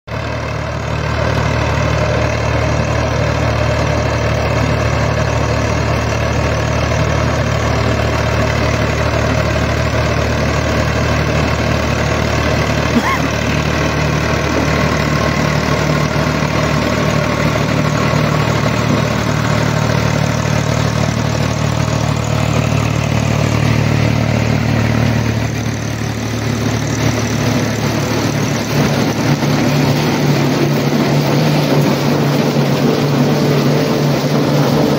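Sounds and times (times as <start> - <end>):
corn picker machinery noise: 0.1 - 34.9
tractor diesel engine running: 0.1 - 34.9.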